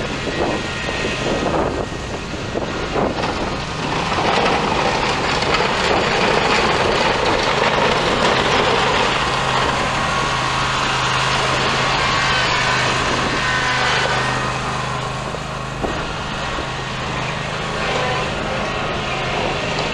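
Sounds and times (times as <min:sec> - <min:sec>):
blade pushing dirt and gravel: 0:00.0 - 0:19.9
mower engine running: 0:00.0 - 0:19.9.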